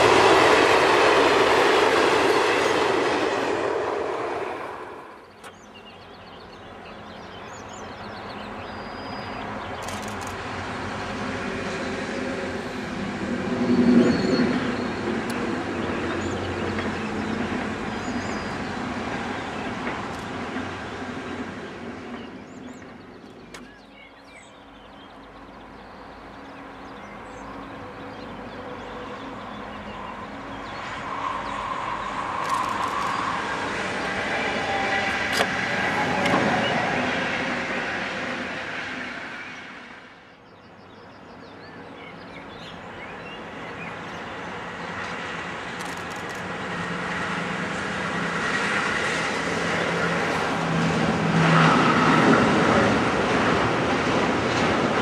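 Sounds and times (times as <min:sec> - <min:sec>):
freight train rolling with low hum: 0:00.0 - 0:55.0
passenger train passing: 0:00.0 - 0:55.0.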